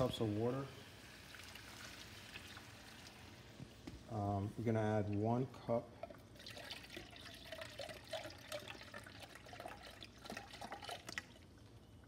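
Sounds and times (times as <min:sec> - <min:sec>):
broth pouring into jug: 0:00.0 - 0:03.8, 0:05.9 - 0:12.0.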